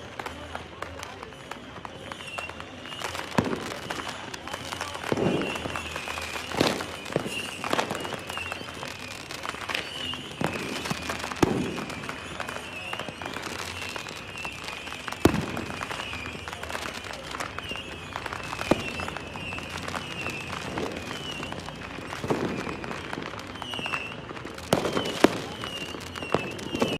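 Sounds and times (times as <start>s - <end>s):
fireworks booming bangs: 0.0s - 26.9s
fireworks crackle: 0.0s - 26.9s.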